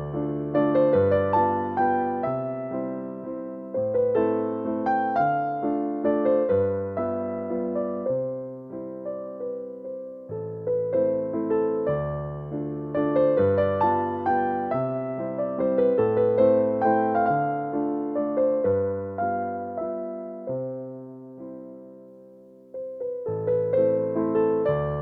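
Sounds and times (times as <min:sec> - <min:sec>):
slow gentle piano piece: 0:00.0 - 0:25.0.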